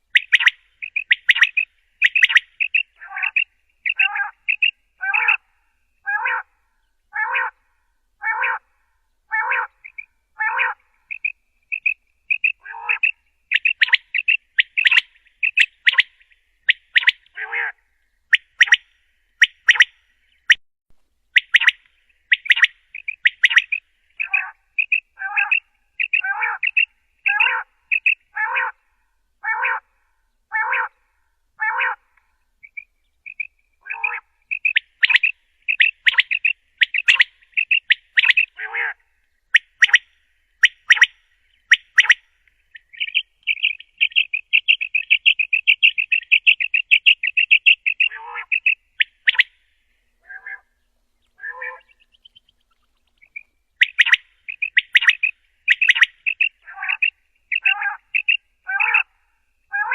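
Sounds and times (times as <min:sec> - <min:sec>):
quail calling: 0:00.0 - 0:08.7, 0:09.3 - 0:20.6, 0:21.4 - 0:29.9, 0:30.5 - 0:31.0, 0:31.6 - 0:49.6, 0:50.2 - 0:59.9.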